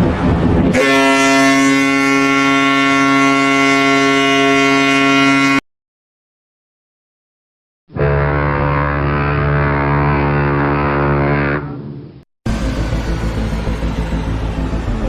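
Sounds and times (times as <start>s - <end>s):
ship's horn deep blast: 0.2s - 5.6s, 7.9s - 15.0s.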